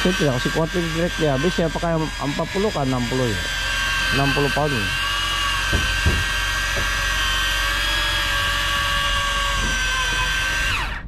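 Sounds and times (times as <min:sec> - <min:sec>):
electric fishing reel motor whine: 0:00.0 - 0:11.0.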